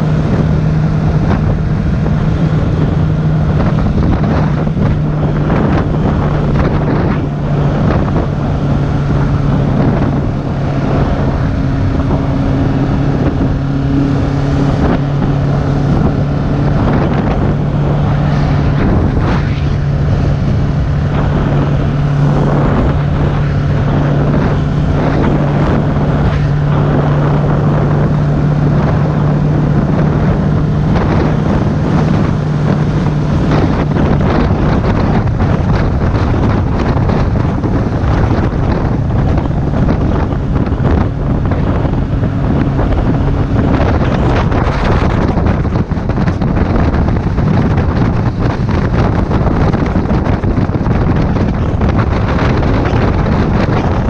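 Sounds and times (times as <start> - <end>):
motorcycle engine drone: 0.0 - 54.0
wind buffeting microphone: 0.0 - 54.0.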